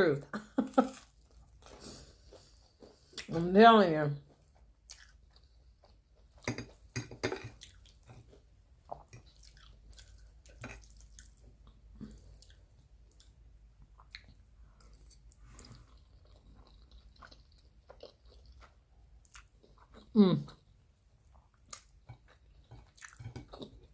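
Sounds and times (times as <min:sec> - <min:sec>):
chewing spaghetti: 0:04.2 - 0:23.9.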